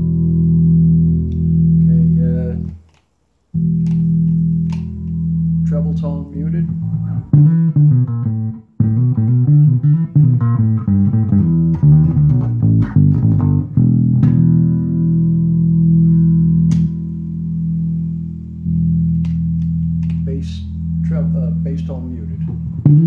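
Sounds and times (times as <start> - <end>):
electric bass plucked notes: 0.0 - 2.8, 3.5 - 23.0.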